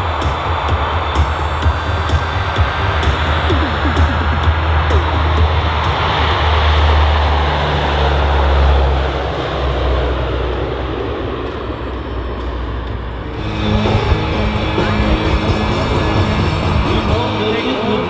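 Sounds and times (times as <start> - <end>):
turboprop aircraft drone: 0.0 - 18.0.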